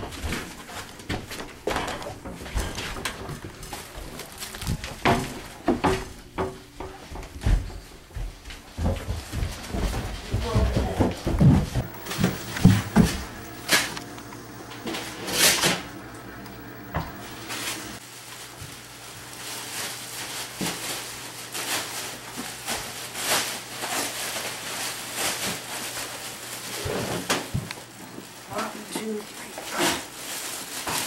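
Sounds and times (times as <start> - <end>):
plastic bags rustling and crinkling: 0.0 - 6.2, 11.8 - 31.0.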